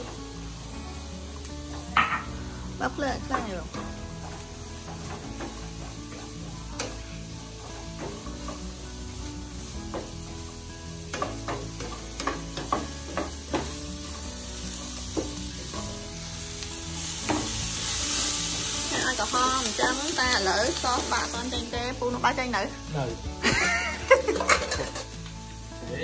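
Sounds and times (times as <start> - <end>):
onions sizzling in oil: 0.0 - 26.0.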